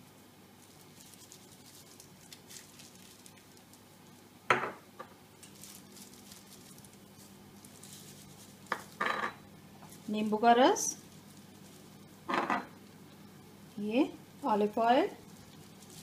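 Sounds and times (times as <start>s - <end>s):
plastic glove crinkling: 0.0s - 4.4s, 5.2s - 16.0s.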